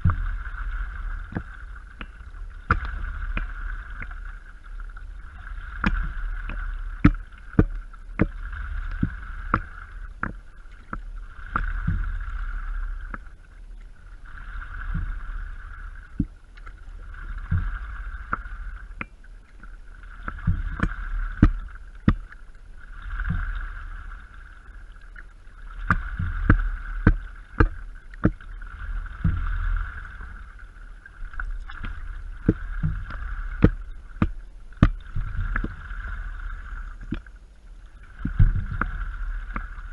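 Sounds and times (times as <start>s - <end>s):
low steady rumble: 0.0s - 39.9s
paddle strokes swishing through water: 0.0s - 39.9s
water and paddle knocking board: 0.0s - 39.9s.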